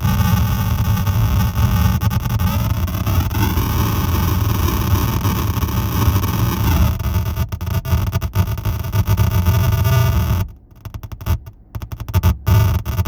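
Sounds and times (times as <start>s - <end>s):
glitchy electronic noise: 0.0s - 10.5s
low buzz: 0.0s - 13.0s.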